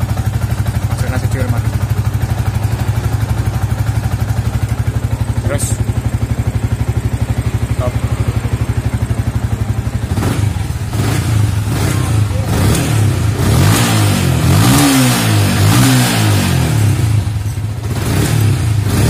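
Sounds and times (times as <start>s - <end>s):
motorcycle engine idling: 0.0s - 19.0s
motorcycle engine revving: 0.0s - 19.0s.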